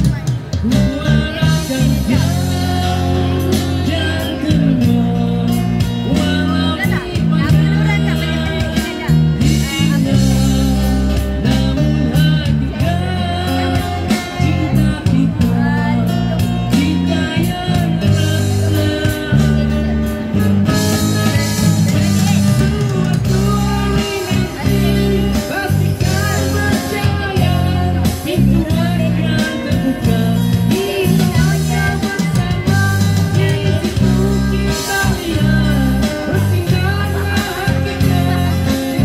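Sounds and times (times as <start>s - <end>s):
acoustic guitar: 0.0s - 39.0s
bass line: 0.0s - 39.0s
keyboard: 0.0s - 39.0s
man singing: 0.0s - 39.0s.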